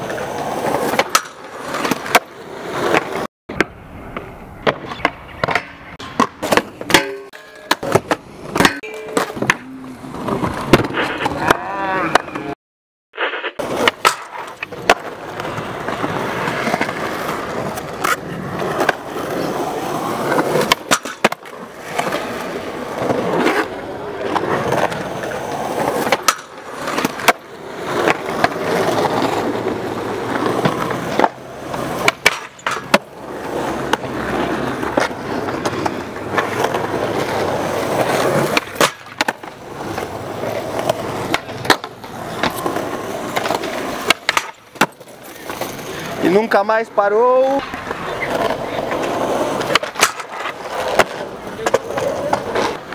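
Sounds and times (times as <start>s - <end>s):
skateboard clacks: 0.0s - 12.6s, 13.3s - 46.3s, 47.4s - 52.9s
skateboard trucks grinding ledge: 0.0s - 12.6s, 13.2s - 46.6s, 47.3s - 52.9s
skateboard wheels rolling on concrete: 0.0s - 12.6s, 13.2s - 52.9s.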